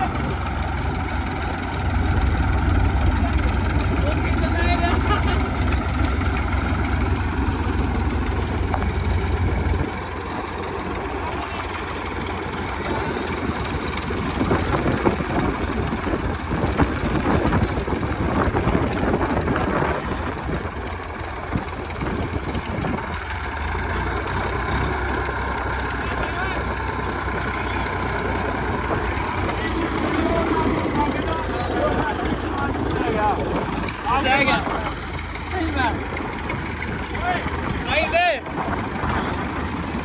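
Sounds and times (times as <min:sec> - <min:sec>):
tractor diesel engine idling: 0:00.0 - 0:40.0.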